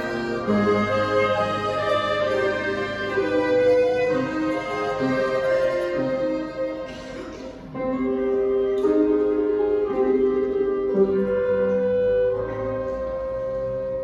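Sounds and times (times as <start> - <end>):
orchestra playing slow melody: 0.0 - 14.0.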